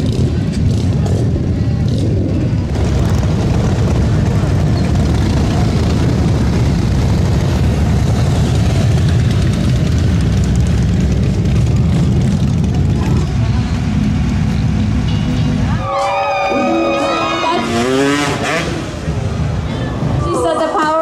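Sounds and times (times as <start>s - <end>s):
motorcycle engines rumbling: 0.0s - 21.0s.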